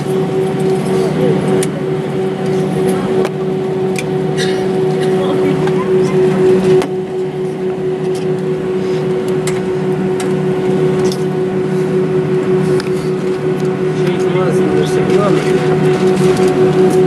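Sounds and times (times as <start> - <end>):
airliner engine hum: 0.0 - 17.0.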